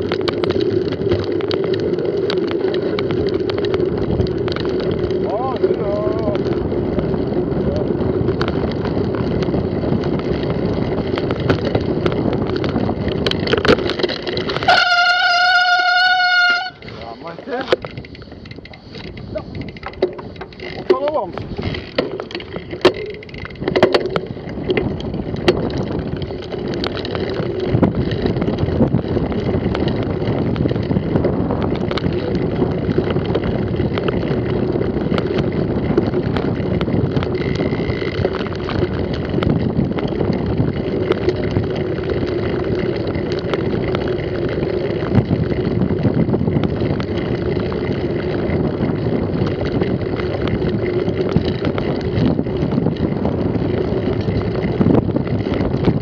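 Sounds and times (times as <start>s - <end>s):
bike knocks and rattles: 0.0s - 56.0s
bike tyre rumble: 0.0s - 56.0s
wind rushing on microphone: 0.0s - 56.0s.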